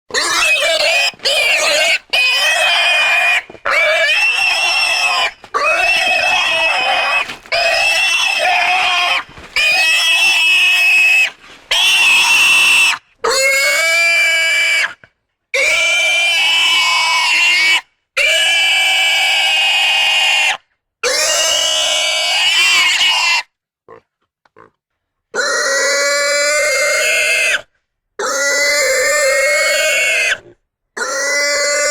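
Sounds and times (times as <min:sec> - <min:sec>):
pigs squealing: 0:00.1 - 0:15.0, 0:15.6 - 0:23.5, 0:25.4 - 0:31.9.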